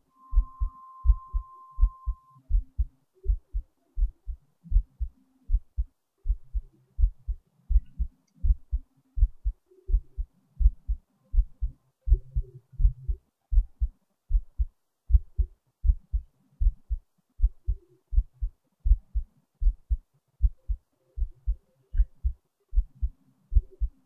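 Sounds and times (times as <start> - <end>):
faint hum: 0.0 - 24.0
heartbeat thumps: 0.3 - 24.0.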